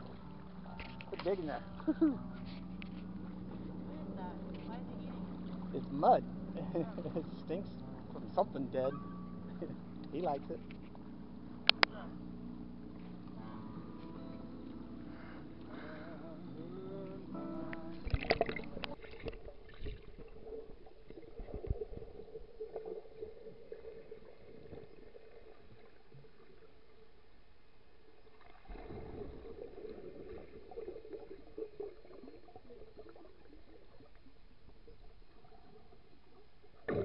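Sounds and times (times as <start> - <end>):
faint steady hum: 0.0 - 37.0
underwater water rumbling: 2.8 - 13.4, 17.1 - 37.0.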